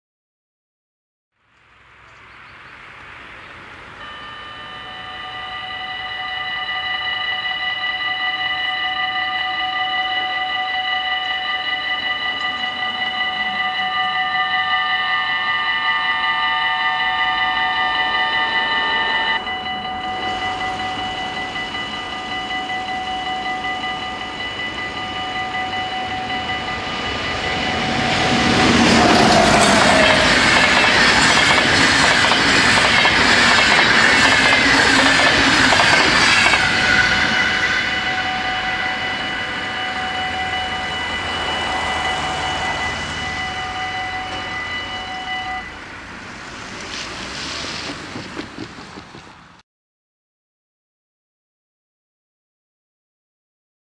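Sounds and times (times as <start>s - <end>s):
level-crossing warning bells: 1.7s - 49.6s
train wheels clattering: 2.8s - 49.6s.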